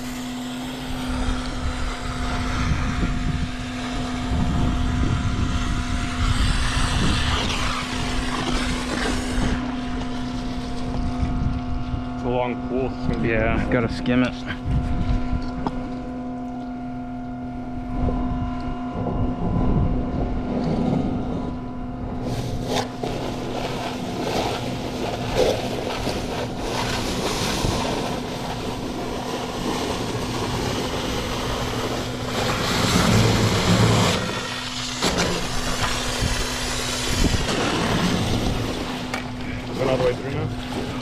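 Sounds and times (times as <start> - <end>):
vacuum pump truck droning: 0.0 - 41.0.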